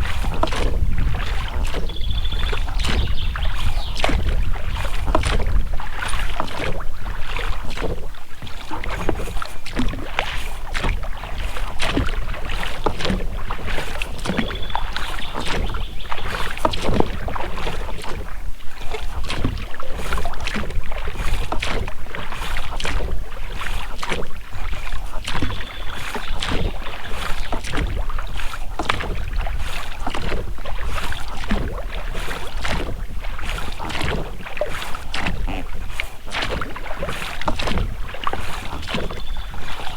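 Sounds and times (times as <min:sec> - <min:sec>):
oars splashing in water: 0:00.0 - 0:39.9
rubber rowlocks creaking: 0:00.0 - 0:39.9.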